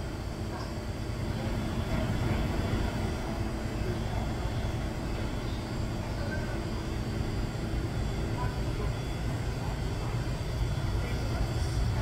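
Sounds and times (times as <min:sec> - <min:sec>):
low indoor background rumble: 0:00.0 - 0:12.0.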